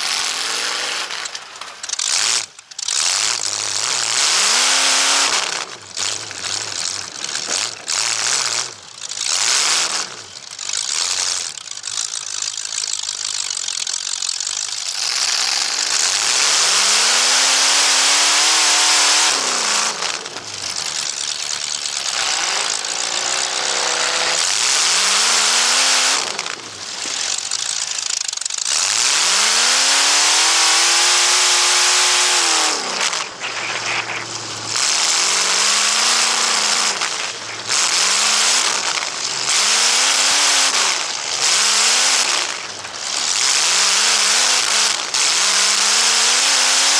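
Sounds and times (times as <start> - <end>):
race car engine accelerating: 0.0 - 11.6, 14.8 - 46.9.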